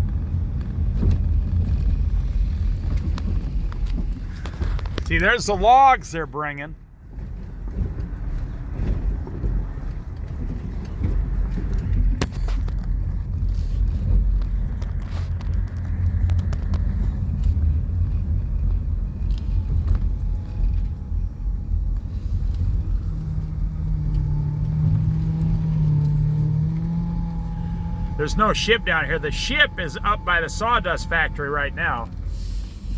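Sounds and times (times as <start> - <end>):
low vehicle rumble: 0.0 - 32.9.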